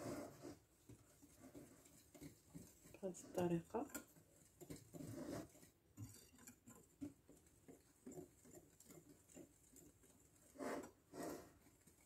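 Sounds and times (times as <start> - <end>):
wire whisk stirring flour: 0.0 - 12.0.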